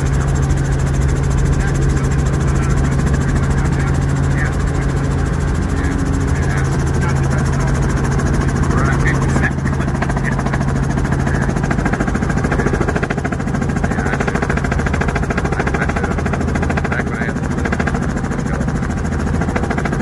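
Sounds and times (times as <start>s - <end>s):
helicopter engine and rotors droning: 0.0s - 20.0s.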